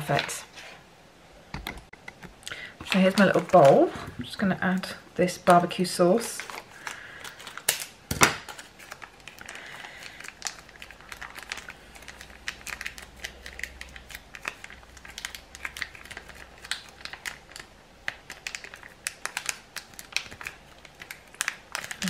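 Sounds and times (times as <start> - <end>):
plastic sachet crinkling: 2.5 - 22.0.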